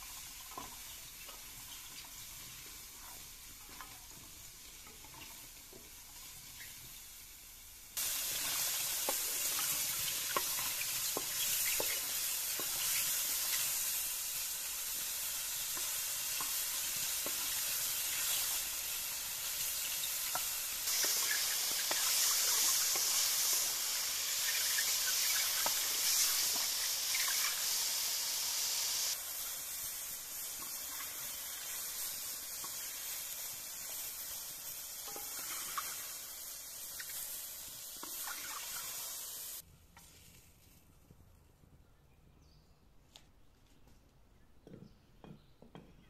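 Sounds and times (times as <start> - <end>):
mushrooms sizzling in hot oil: 0.0 - 40.7.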